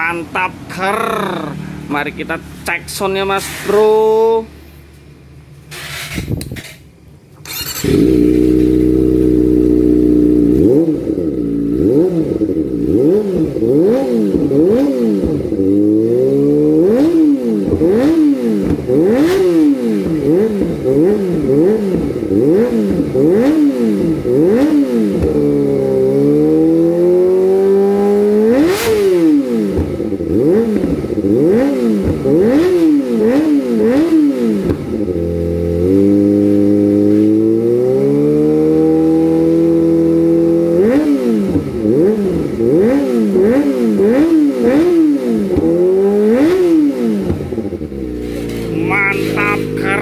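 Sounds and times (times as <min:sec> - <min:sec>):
motorcycle engine revving: 0:07.4 - 0:50.0.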